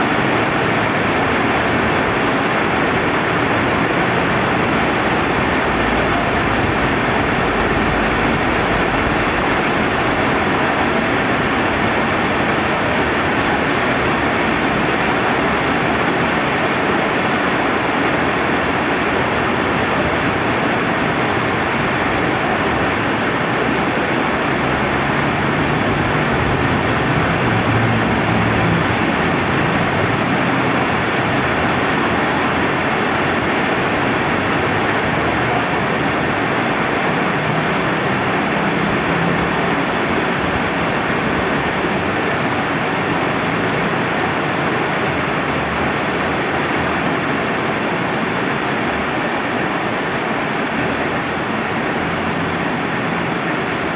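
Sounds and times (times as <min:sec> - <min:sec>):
rain falling: 0:00.0 - 0:53.9
river water rushing: 0:00.0 - 0:53.9.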